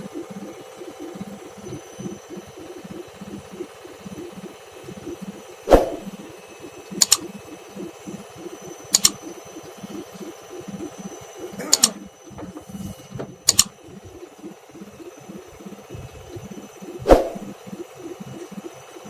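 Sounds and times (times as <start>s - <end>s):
washing machine rhythmic throb: 0.0s - 19.0s.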